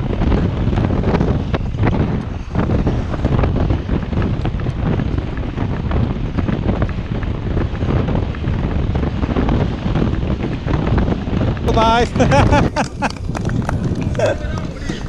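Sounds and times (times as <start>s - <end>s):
tyres rumbling on road: 0.0s - 15.0s
wind buffeting microphone: 0.0s - 15.0s.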